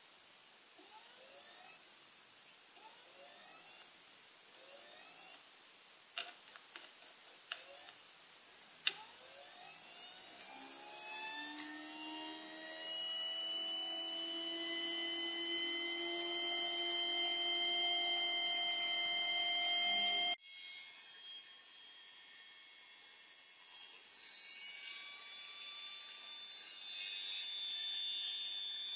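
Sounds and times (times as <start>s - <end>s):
motor running with whine: 0.7s - 2.0s, 2.7s - 6.3s, 8.9s - 28.9s.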